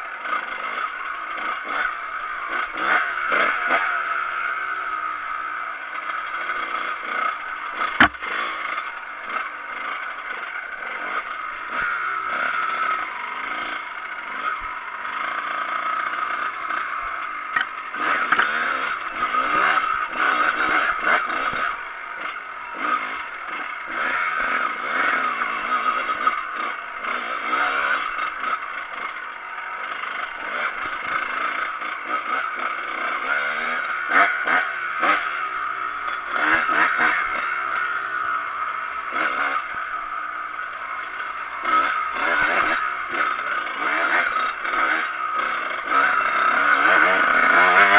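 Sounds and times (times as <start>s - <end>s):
dirt bike engine revving: 0.0s - 47.9s
bike clatter and rattling: 0.1s - 4.5s, 5.8s - 47.9s.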